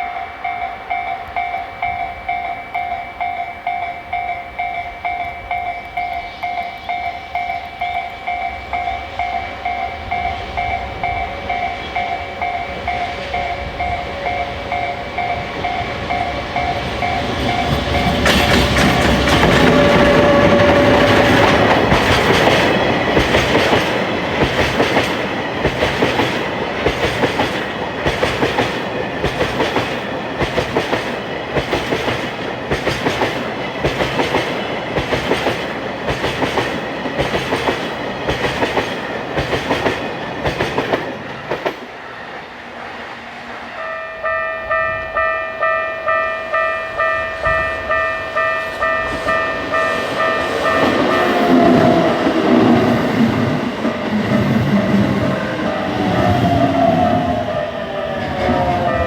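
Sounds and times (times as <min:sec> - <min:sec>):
crossing warning bell dinging: 0:00.0 - 0:42.2, 0:43.6 - 0:59.0
train wheels clacking on rails: 0:00.0 - 0:42.6, 0:47.0 - 0:59.0.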